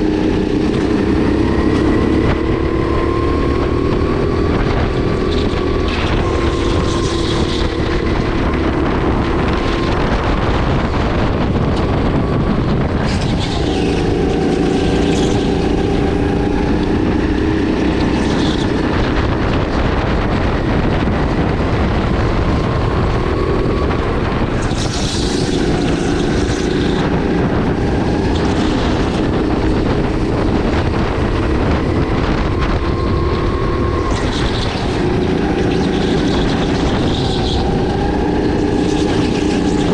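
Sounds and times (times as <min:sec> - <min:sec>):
kart engine revving: 0:00.0 - 0:39.9
wind noise on microphone: 0:00.0 - 0:39.9.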